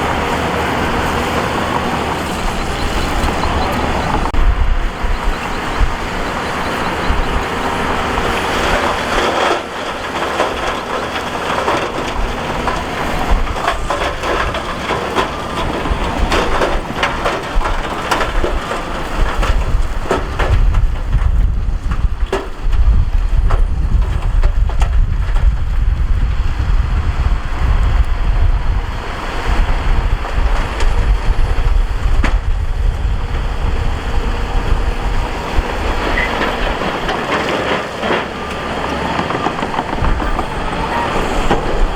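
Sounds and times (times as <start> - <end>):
diesel engine rumble: 0.0 - 41.9.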